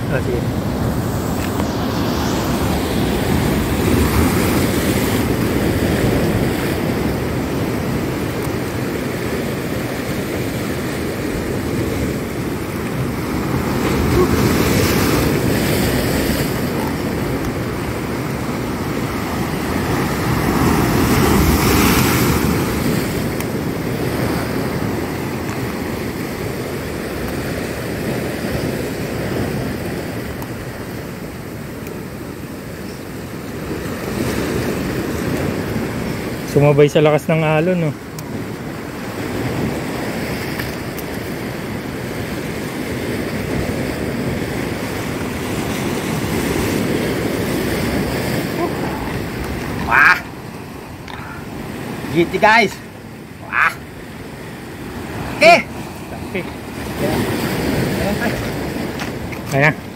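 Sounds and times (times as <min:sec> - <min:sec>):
waves crashing on rocks: 0:00.0 - 0:59.9.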